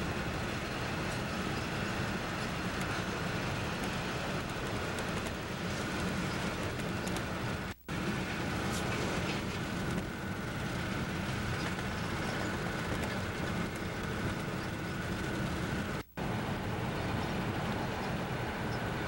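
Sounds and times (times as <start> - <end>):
car road and wind noise: 0.0 - 19.0
freight train rolling: 0.0 - 19.0.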